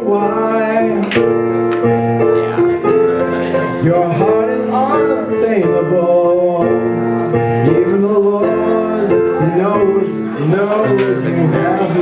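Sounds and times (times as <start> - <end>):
keyboard chords: 0.0 - 12.0
man singing: 0.0 - 12.0.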